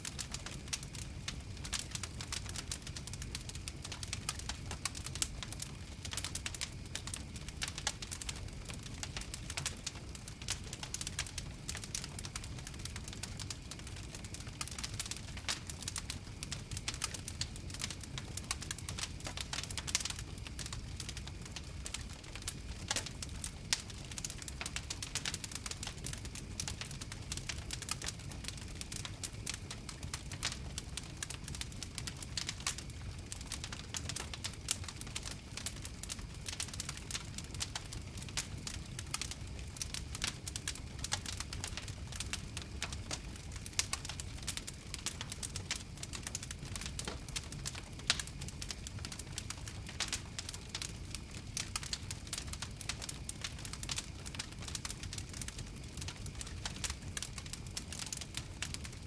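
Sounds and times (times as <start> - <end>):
bonfire pops and snaps: 0.0 - 59.0
low rumble of burning: 0.0 - 59.0.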